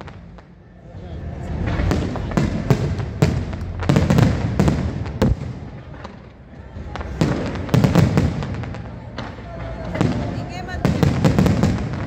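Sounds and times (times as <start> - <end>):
fireworks bursting with echoes: 0.0 - 12.0.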